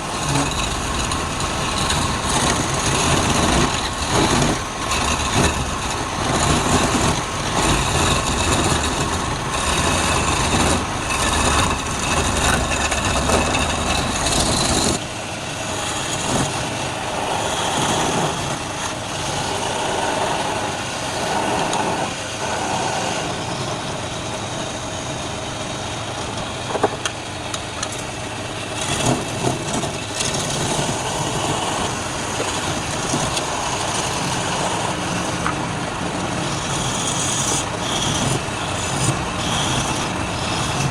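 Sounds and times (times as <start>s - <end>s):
wood lathe running: 0.0s - 40.9s.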